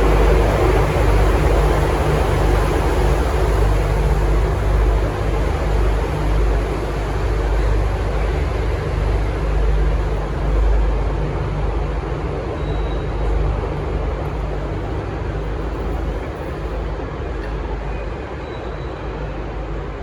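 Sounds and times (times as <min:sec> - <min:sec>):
diesel engine drone: 0:00.0 - 0:20.0
wheel and rail noise: 0:00.0 - 0:20.0.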